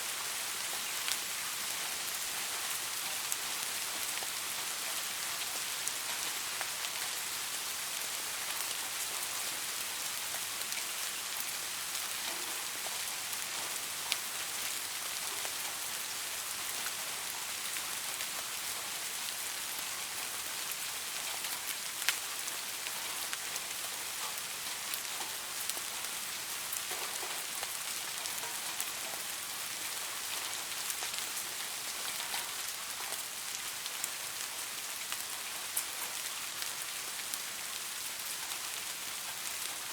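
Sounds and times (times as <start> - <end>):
light rain hiss: 0.0 - 39.9.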